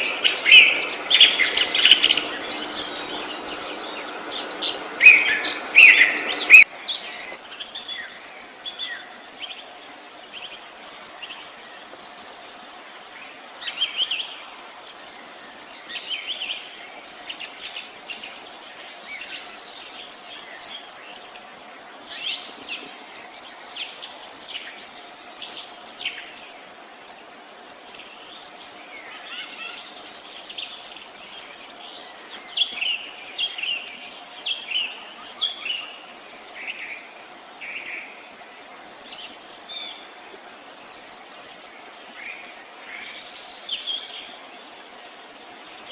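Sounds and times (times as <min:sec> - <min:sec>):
songbirds chirping and trilling: 0:00.0 - 0:45.9.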